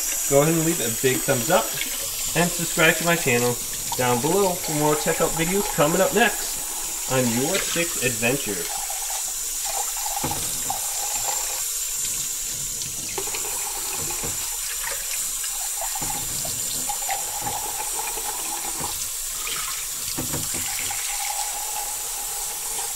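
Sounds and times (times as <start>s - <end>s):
faucet water splashing into cup: 0.0s - 22.9s.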